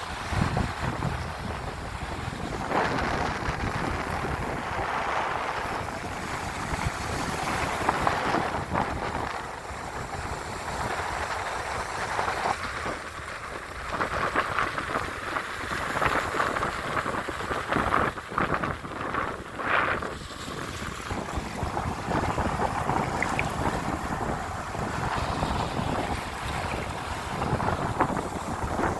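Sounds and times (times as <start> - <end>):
ocean waves washing in: 0.0 - 28.9
wind rumbling on microphone: 0.0 - 28.9.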